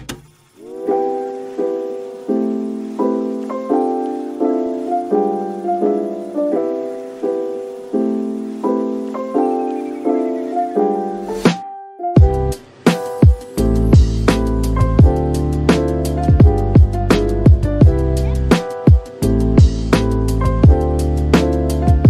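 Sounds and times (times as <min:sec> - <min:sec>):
piano playing soft chords: 0:00.3 - 0:22.0.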